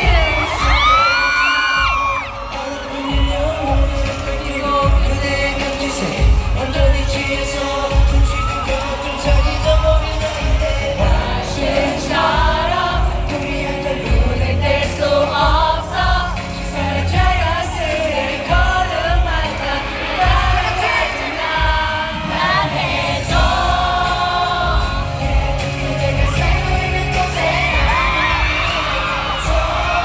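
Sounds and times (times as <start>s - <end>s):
backing track with steady beat: 0.0s - 30.0s
crowd voices: 0.0s - 30.0s
male vocal group singing: 0.0s - 30.0s.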